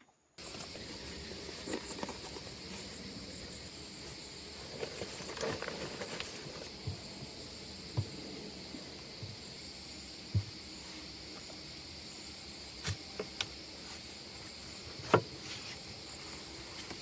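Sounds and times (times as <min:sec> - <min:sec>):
rustles: 0:00.4 - 0:09.6, 0:10.2 - 0:17.0.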